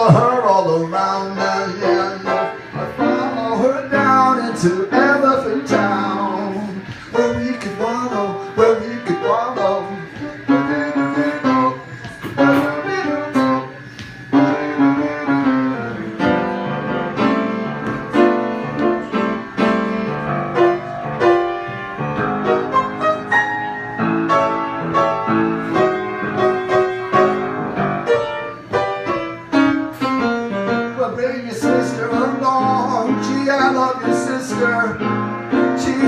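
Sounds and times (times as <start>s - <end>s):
live instrumental music: 0.0s - 36.0s.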